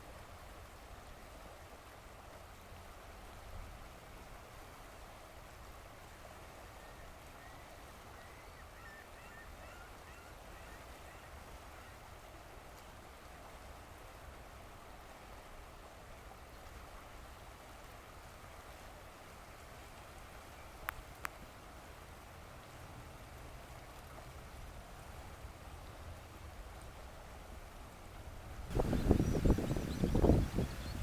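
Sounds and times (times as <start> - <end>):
flowing river water: 0.0 - 31.0.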